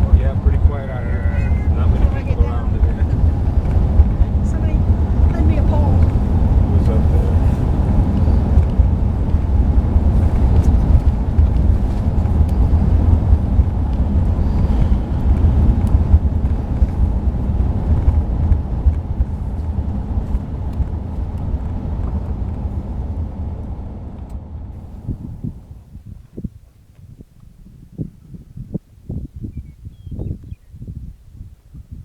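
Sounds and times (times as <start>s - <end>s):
van road rumble: 0.0s - 32.0s.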